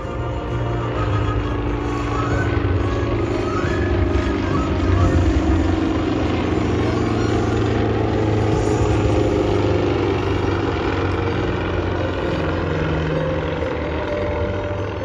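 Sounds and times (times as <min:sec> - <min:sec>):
aircraft engine drone overhead: 0:00.0 - 0:15.0.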